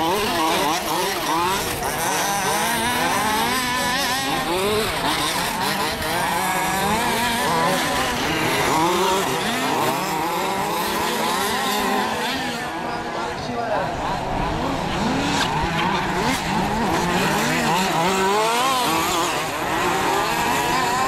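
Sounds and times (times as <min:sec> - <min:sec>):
small engines revving: 0:00.0 - 0:21.0.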